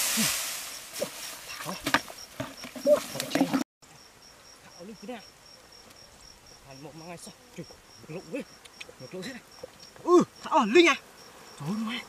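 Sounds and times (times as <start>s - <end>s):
insect chirping in pulses: 0.0s - 12.0s.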